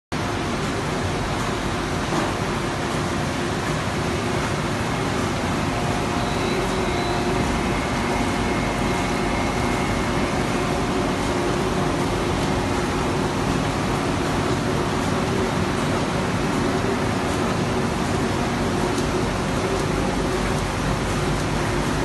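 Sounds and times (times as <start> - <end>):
printing press mechanical din: 0.2 - 22.0
faint humming tones: 2.7 - 22.0.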